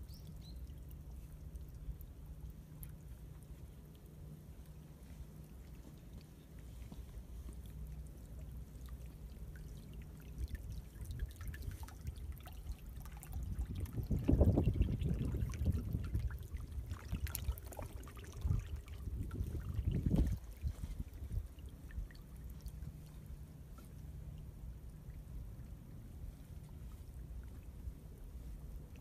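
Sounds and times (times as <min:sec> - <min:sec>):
water trickling and gurgling: 0:00.0 - 0:29.0.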